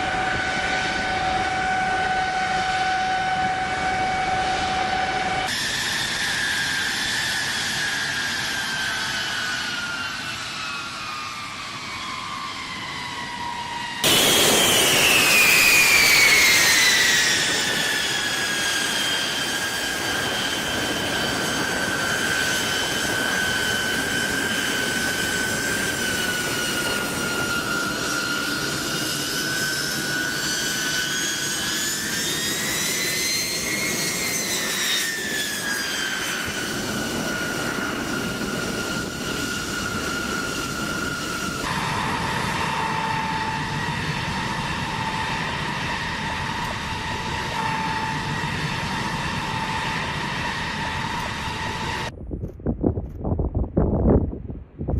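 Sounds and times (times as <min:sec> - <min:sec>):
jet engines whining: 0:00.0 - 0:52.2
rush of jet noise: 0:00.0 - 0:52.2.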